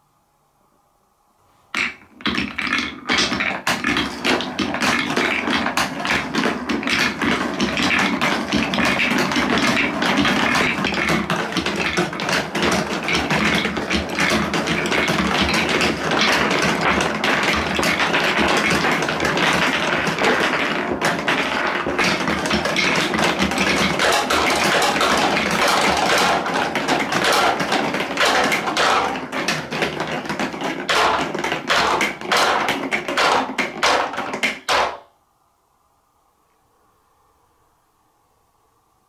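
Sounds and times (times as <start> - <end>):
balls clacking into plastic truck: 1.8 - 35.1
balls rolling on marble run: 1.8 - 35.1.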